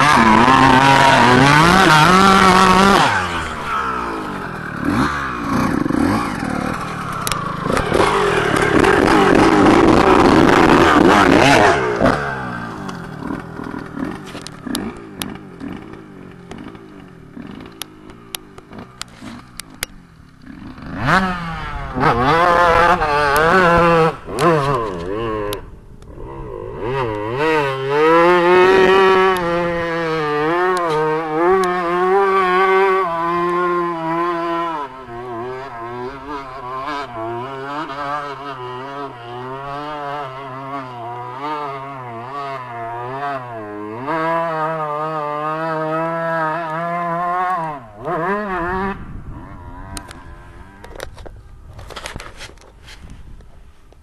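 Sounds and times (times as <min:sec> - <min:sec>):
dirt bike engine revving: 0:00.0 - 0:52.5.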